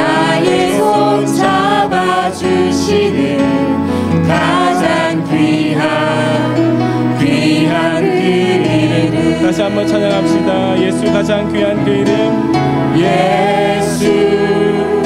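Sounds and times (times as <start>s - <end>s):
group singing worship song: 0.0s - 15.0s
instrumental accompaniment: 0.0s - 15.0s.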